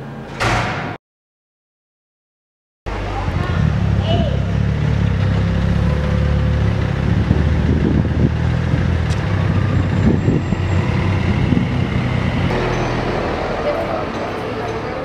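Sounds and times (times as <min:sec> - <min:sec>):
large vehicle engine rumbling: 0:02.9 - 0:15.0
street traffic: 0:02.9 - 0:15.0.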